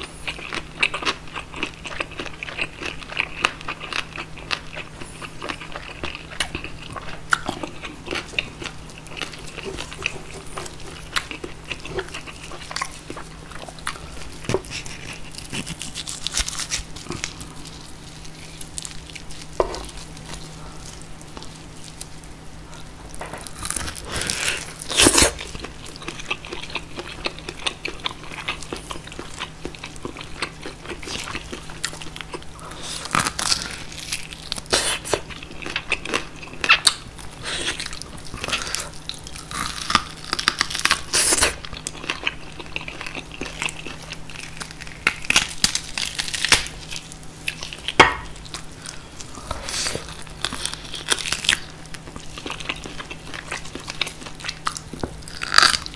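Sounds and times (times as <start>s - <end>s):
chewing and crunching: 0.0s - 55.9s.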